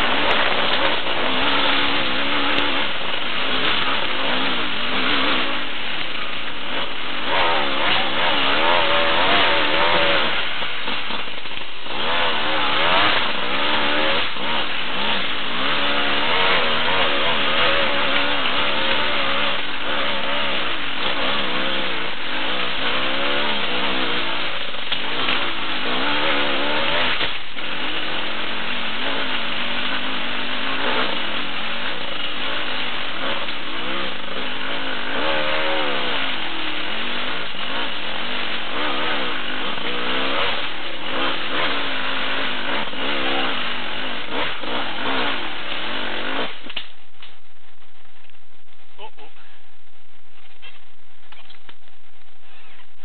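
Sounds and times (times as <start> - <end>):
motorcycle engine revving: 0.0 - 47.2.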